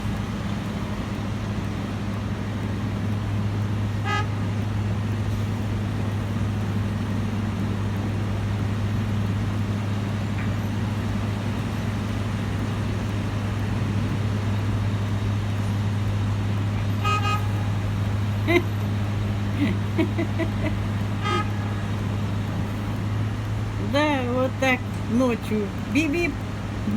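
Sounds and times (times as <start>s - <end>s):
road-works machinery droning: 0.0s - 26.9s.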